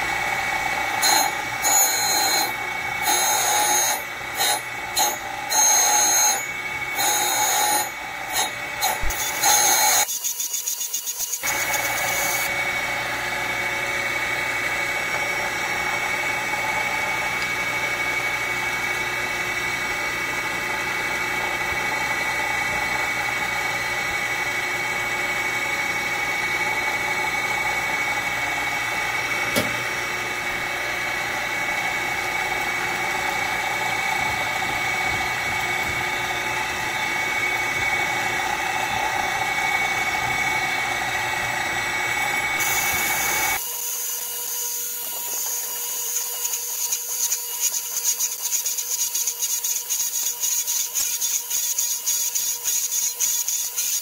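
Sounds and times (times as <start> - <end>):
grinder whining: 0.0 - 54.0.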